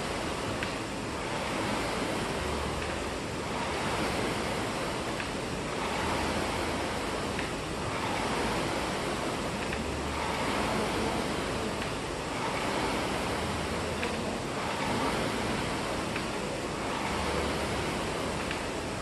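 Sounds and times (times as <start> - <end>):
rowing machine fan whooshing: 0.0 - 19.0.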